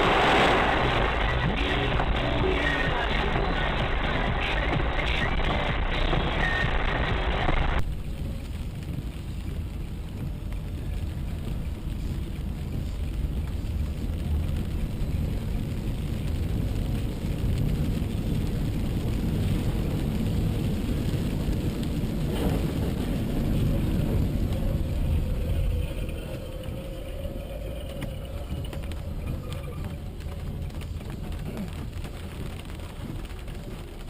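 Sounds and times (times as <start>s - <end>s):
car engine rumble: 0.0s - 34.0s
road noise: 0.0s - 34.0s.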